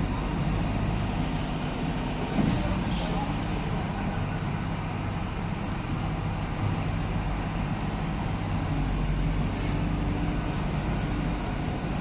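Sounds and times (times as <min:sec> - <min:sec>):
excavator diesel engine humming: 0:00.0 - 0:12.0.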